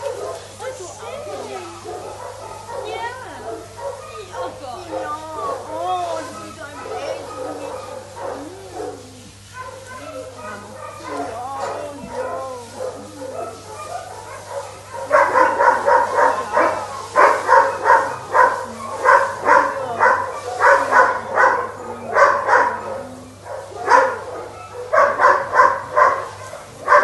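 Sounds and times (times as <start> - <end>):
dog barking: 0.0 - 0.5, 1.3 - 27.0.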